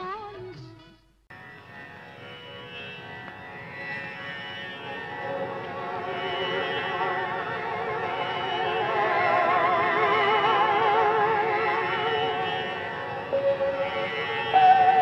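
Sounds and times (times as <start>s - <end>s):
old film song with vibrato: 3.0s - 15.0s.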